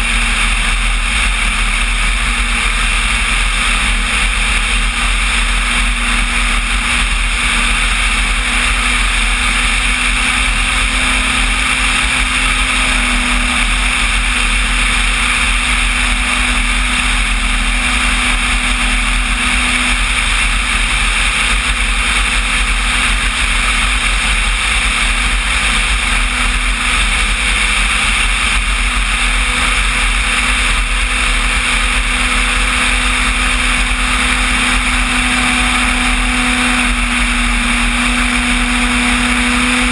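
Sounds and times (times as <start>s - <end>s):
electric motor and propeller drone: 0.0s - 39.9s.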